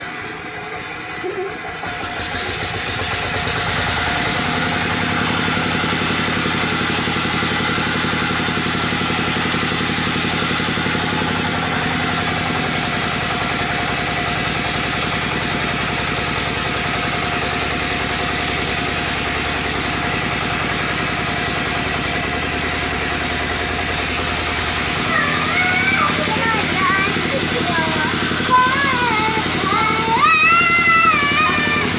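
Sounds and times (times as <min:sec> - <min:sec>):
engine-driven wood saw running: 0:00.0 - 0:31.9.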